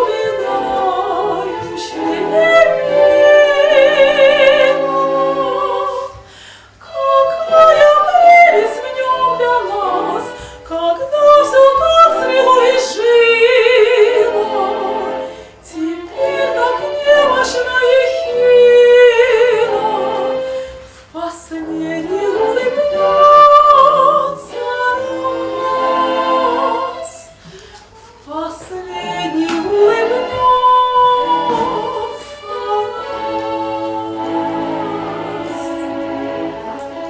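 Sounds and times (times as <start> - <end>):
woman singing opera: 0.0 - 37.0.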